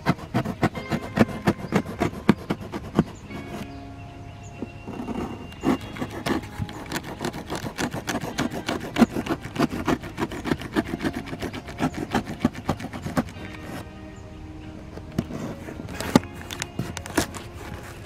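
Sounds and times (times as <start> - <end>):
knife cutting cardboard: 0.0 - 3.6, 4.9 - 13.8, 15.1 - 18.0.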